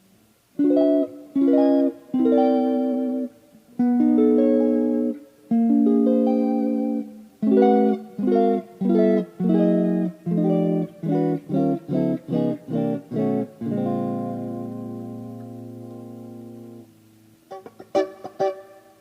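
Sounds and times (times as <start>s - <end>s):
electric guitar chords: 0.6s - 19.0s.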